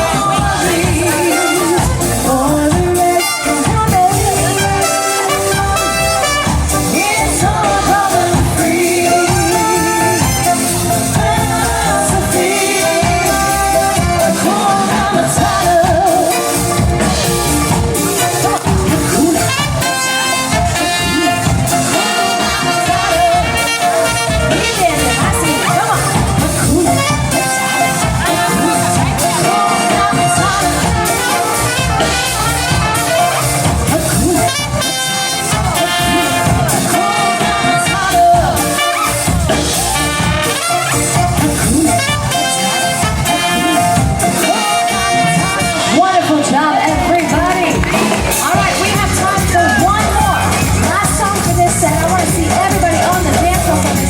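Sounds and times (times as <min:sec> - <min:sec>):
brass jazz music: 0:00.0 - 0:54.0
pop song with singing: 0:00.0 - 0:54.0.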